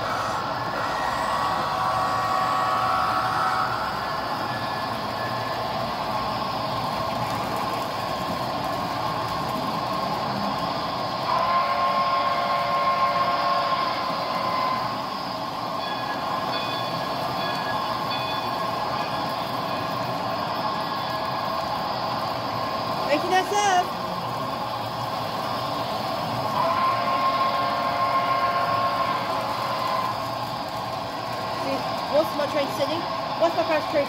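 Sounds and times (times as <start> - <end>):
model train running with whine: 0.0 - 34.0.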